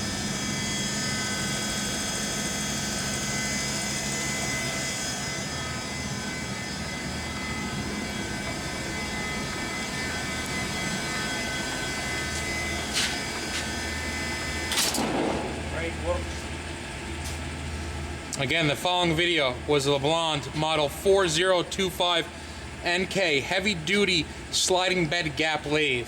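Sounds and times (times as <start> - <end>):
high whining tones: 0.0 - 22.2
lathe drive humming: 0.0 - 25.1.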